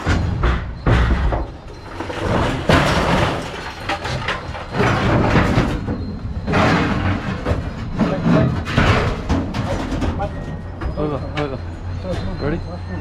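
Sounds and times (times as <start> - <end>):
scrap metal clattering and scraping: 0.0 - 12.7.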